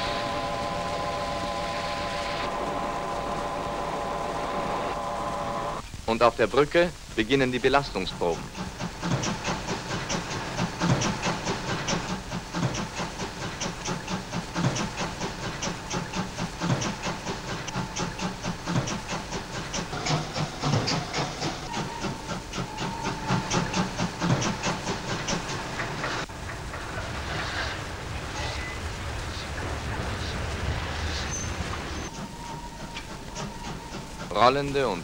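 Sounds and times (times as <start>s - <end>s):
steam locomotive chuffing: 0.0s - 5.8s, 7.2s - 35.0s
steam hissing: 0.0s - 35.0s.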